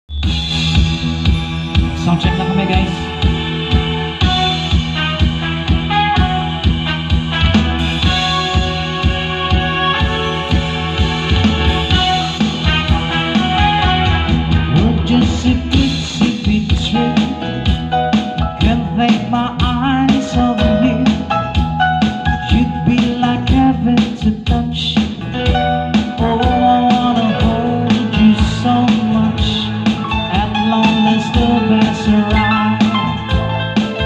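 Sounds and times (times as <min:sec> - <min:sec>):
rock band music: 0:00.1 - 0:34.0.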